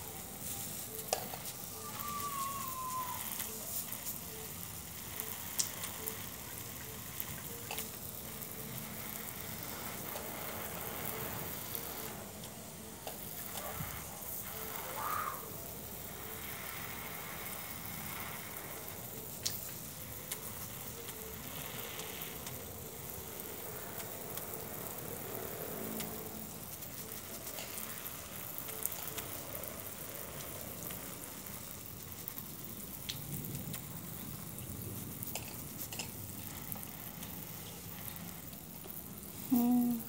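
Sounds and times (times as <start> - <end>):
water sprayer hissing: 0.0 - 40.0.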